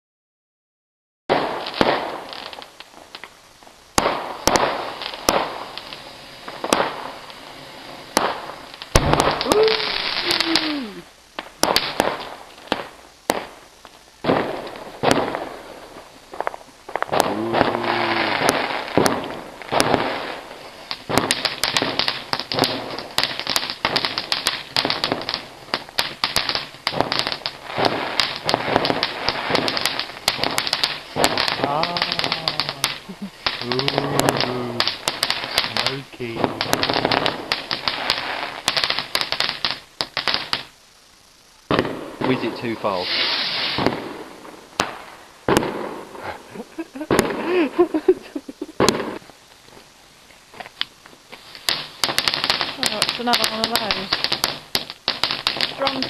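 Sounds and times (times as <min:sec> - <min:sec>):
fireworks bangs and crackles: 0:01.3 - 0:56.0
falling firework whistle: 0:04.0 - 0:49.4.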